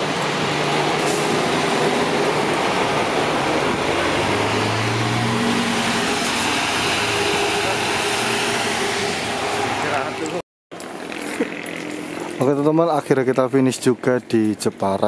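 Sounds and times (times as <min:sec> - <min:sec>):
coach engine and road noise: 0:00.0 - 0:15.0.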